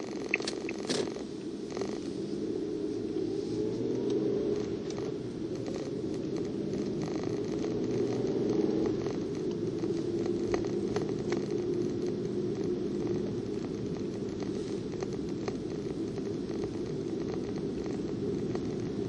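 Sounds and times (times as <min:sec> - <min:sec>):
car road and engine noise: 0:00.0 - 0:19.0
faint steady hum: 0:00.0 - 0:19.0.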